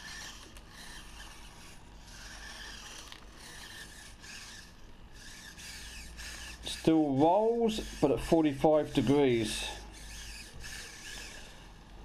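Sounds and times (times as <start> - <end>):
faint steady hum: 0.0 - 12.0
rubbing and scraping of gimbal: 0.0 - 12.0.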